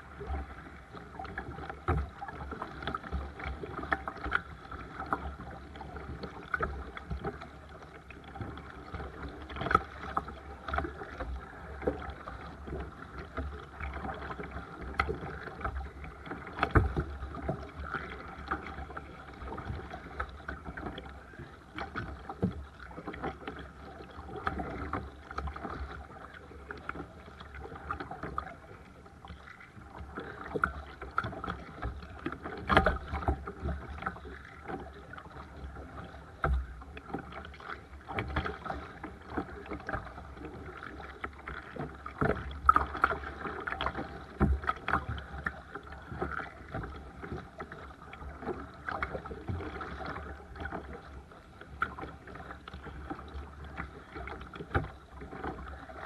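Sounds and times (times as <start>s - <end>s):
moving water: 0.0s - 56.0s
paddle splashes and drips: 0.0s - 56.0s.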